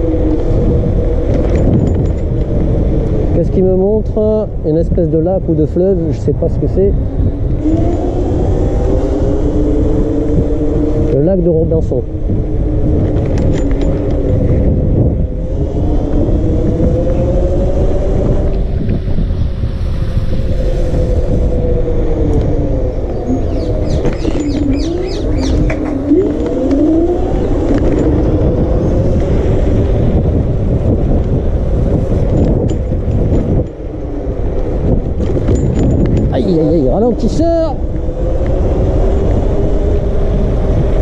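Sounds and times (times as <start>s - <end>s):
electric scooter motor whining: 0.0s - 3.4s, 6.9s - 41.0s
wind and road noise: 0.0s - 41.0s.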